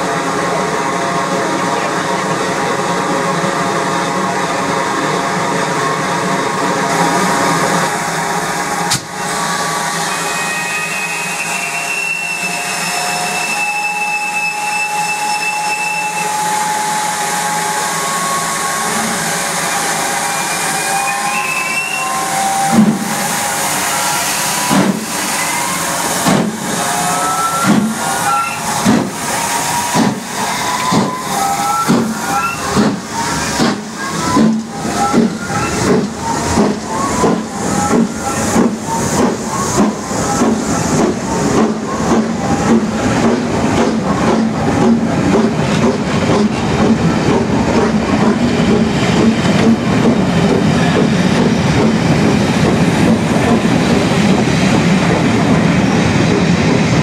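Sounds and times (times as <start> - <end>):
steam locomotive exhaust chuffs: 0.0 - 57.0
steam hissing: 6.9 - 57.0.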